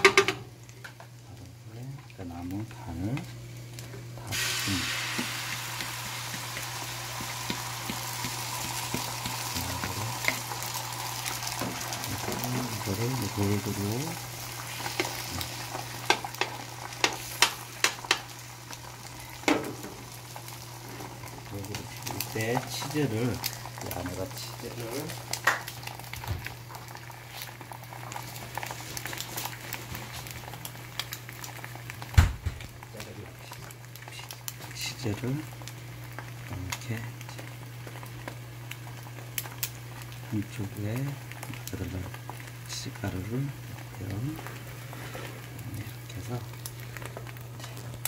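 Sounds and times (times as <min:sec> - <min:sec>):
egg sizzling in a pan: 0:00.0 - 0:48.0.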